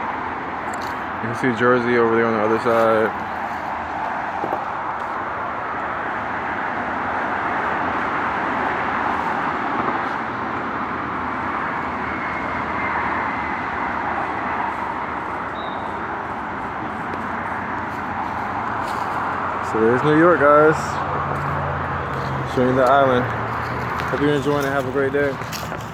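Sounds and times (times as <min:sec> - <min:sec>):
highway traffic rush: 0:00.0 - 0:25.9.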